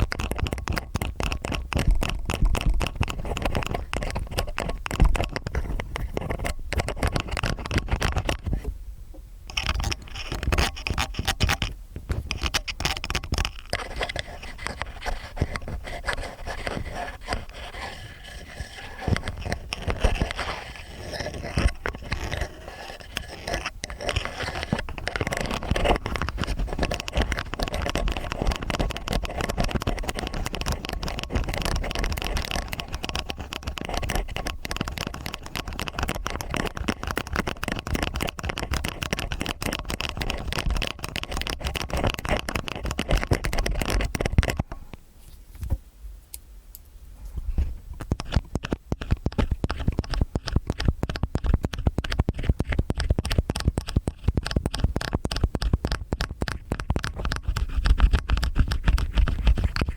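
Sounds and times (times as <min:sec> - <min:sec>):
ear picks scraping: 0:00.0 - 0:08.8, 0:09.5 - 0:45.8, 0:47.2 - 0:59.9.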